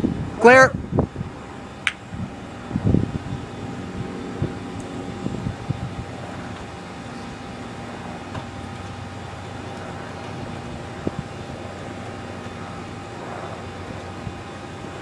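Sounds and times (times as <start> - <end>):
aircraft engine starter hum: 1.2 - 15.0.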